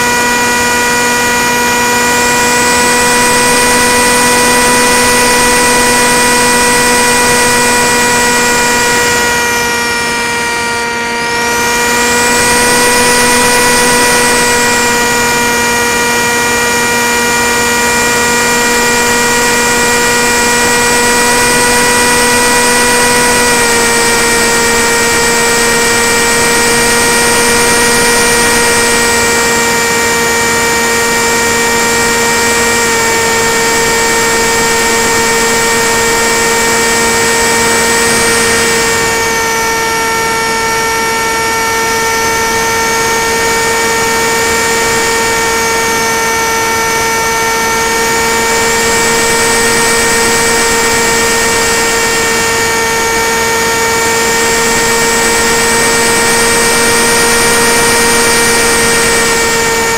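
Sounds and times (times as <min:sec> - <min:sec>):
propeller motor whine: 0:00.0 - 0:59.9.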